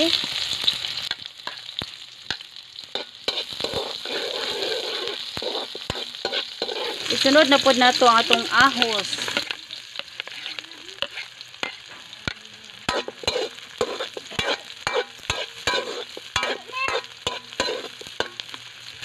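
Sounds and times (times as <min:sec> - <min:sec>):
metal spatula scraping wok: 0:00.0 - 0:18.4
food sizzling in hot oil: 0:00.0 - 0:19.0.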